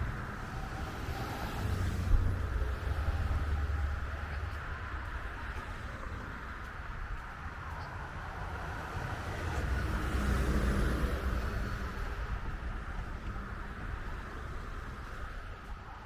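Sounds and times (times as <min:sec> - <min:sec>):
engine and tyre rumble: 0:00.0 - 0:16.0
hum of passing cars: 0:00.0 - 0:16.0.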